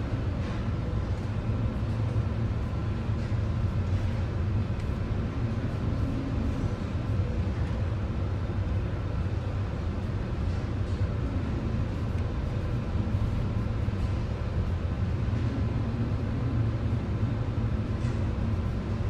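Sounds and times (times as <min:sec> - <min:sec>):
heavy sea: 0:00.0 - 0:19.0.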